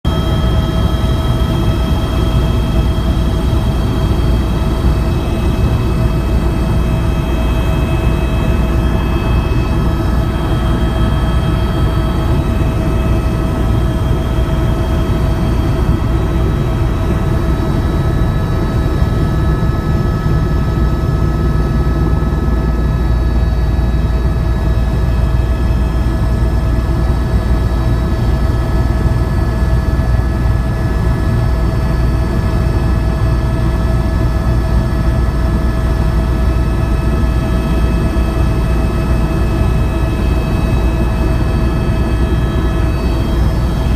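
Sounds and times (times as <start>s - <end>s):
helicopter rotor and engine rumble: 0.0s - 43.9s
helicopter whine: 0.0s - 43.9s.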